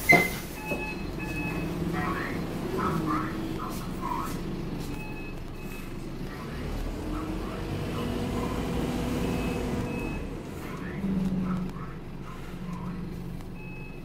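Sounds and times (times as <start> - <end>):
bus engine rumbling: 0.0 - 14.0
road noise: 0.0 - 14.0.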